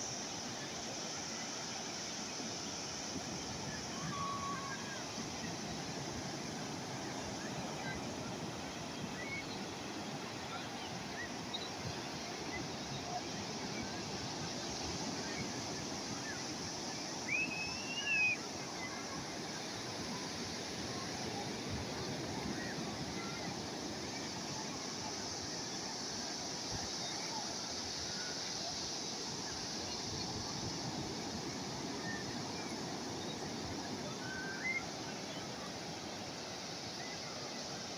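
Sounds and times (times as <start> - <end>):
sea waves washing on shore: 0.0 - 37.9.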